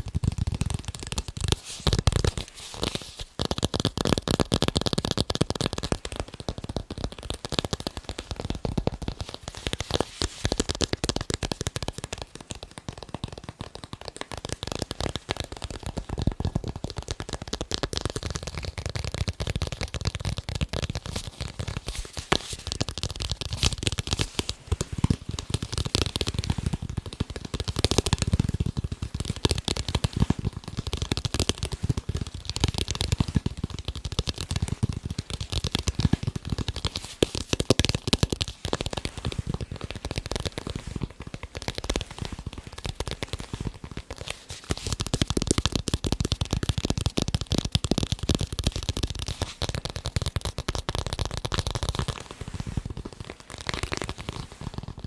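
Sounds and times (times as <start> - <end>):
fast tapping on balls: 0.0 - 55.0.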